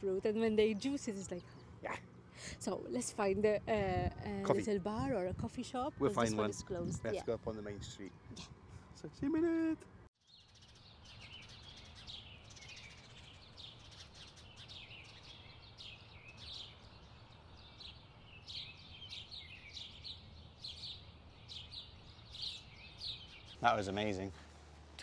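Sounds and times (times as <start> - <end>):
birds chirping: 0.0 - 9.6, 10.2 - 25.0.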